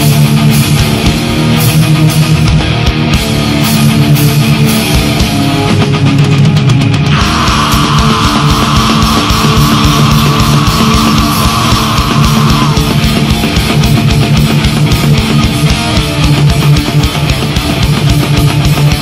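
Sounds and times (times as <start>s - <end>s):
metal band playing live: 0.0s - 19.0s.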